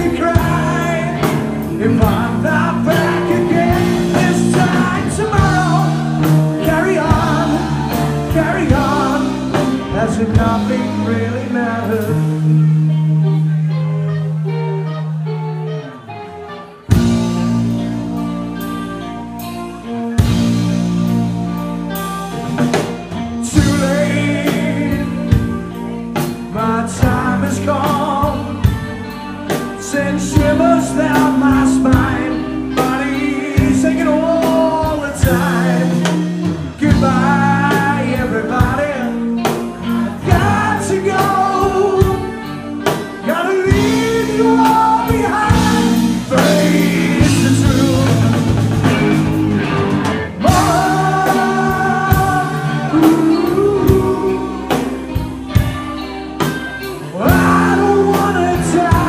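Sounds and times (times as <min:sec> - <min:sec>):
live band playing: 0:00.0 - 0:59.0
person singing: 0:00.0 - 0:59.0.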